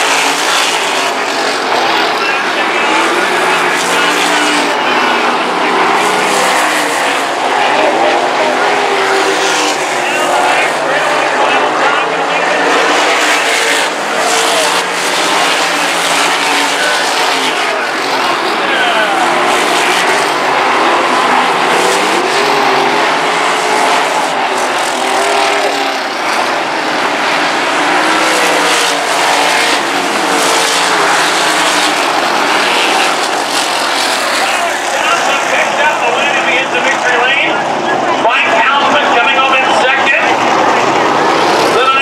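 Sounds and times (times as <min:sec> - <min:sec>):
race car engines accelerating: 0:00.0 - 0:42.0.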